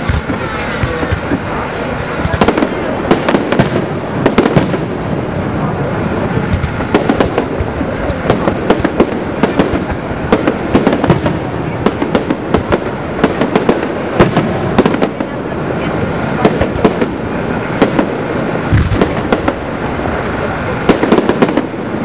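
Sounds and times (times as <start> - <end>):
fireworks bangs: 0.0 - 22.0
fireworks crackling: 0.0 - 22.0
fireworks rumble: 0.0 - 22.0.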